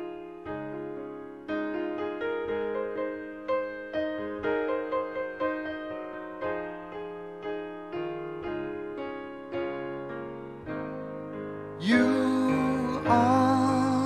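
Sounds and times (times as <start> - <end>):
slow gentle piano chords: 0.0 - 14.0.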